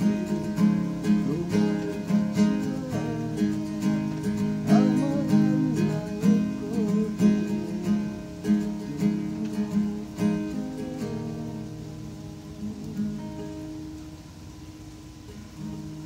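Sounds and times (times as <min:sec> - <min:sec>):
acoustic guitar strumming and picking: 0:00.0 - 0:16.0.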